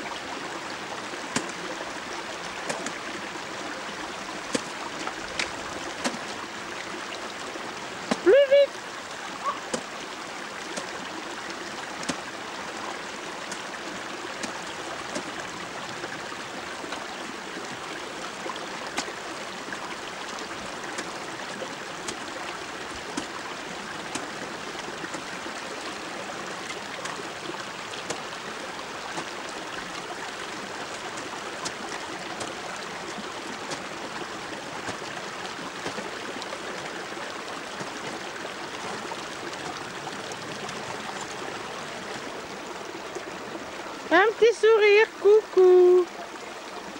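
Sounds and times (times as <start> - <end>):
water rushing: 0.0 - 46.9.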